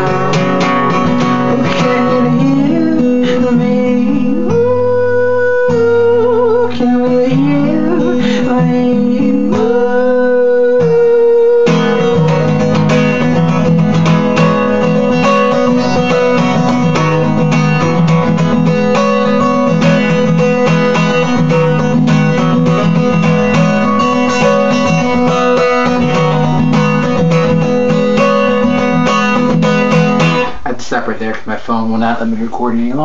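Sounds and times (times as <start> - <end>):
guitar strumming chords: 0.0 - 30.8.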